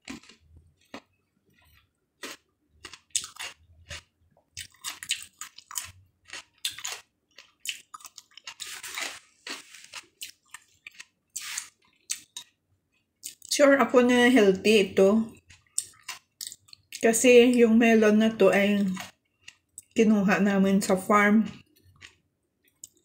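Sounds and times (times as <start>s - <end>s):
person chewing crunchy melon: 0.0s - 13.6s, 15.2s - 17.6s, 18.6s - 20.0s, 21.5s - 23.0s.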